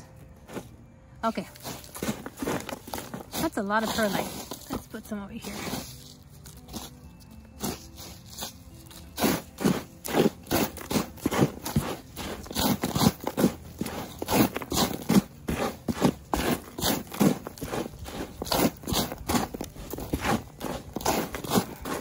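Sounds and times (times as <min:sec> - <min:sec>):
hands mixing potting soil: 0:00.0 - 0:22.0.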